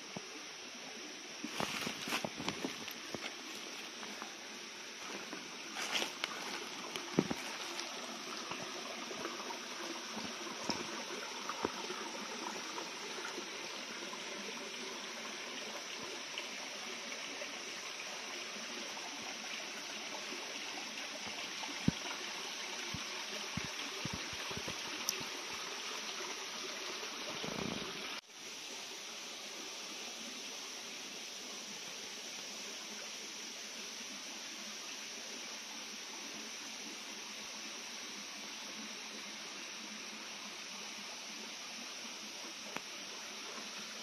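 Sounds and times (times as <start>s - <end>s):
creek trickling over stones: 0.0s - 44.0s.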